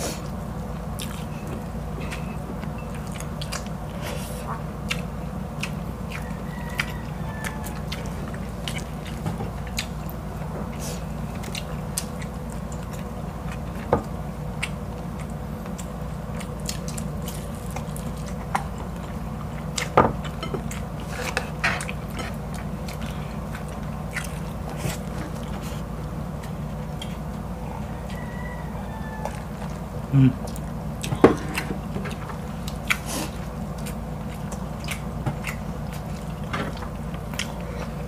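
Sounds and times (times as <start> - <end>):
people chewing: 0.0 - 38.0
steady low hum: 0.0 - 38.0.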